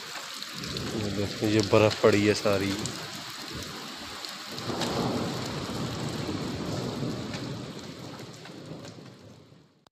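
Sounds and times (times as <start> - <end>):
rain falling on pavement: 0.0 - 9.9.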